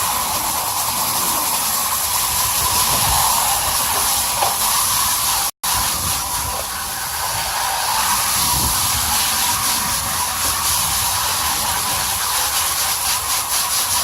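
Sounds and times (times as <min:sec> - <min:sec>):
garden hose spraying water: 0:00.0 - 0:14.0.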